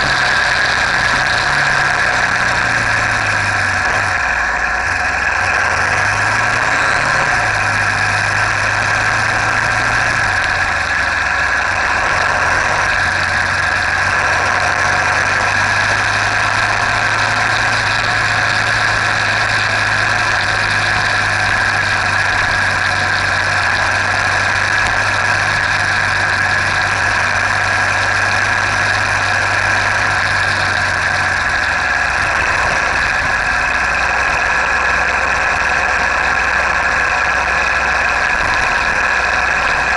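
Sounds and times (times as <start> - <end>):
motorcycle engine drone: 0.0 - 39.9
rush of noise: 0.0 - 39.9.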